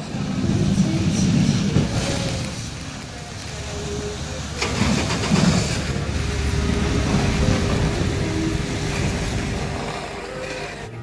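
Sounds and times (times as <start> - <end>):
diesel truck engine rumbling under load: 0.0 - 11.0
snowplow pushing slush: 0.0 - 11.0.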